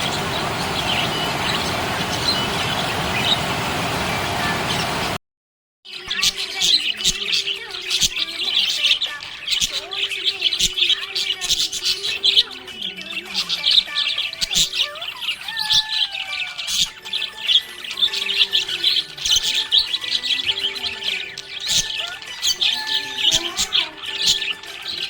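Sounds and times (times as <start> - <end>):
budgies chirping and squawking: 0.0 - 5.2, 5.9 - 25.0.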